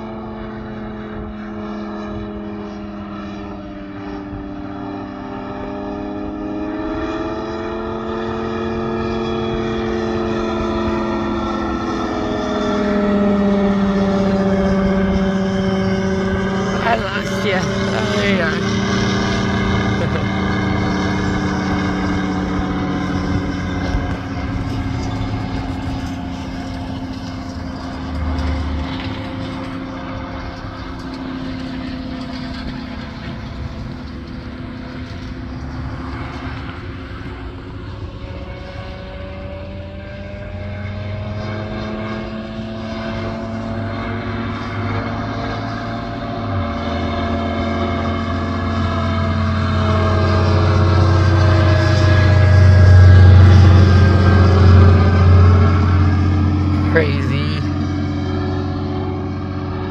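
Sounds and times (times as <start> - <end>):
ultralight plane engine droning: 0.0 - 59.9.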